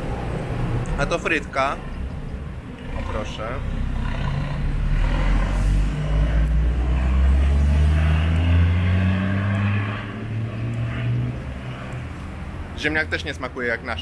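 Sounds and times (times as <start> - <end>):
vehicle engine accelerating: 0.0 - 12.8
street traffic noise: 0.0 - 14.0.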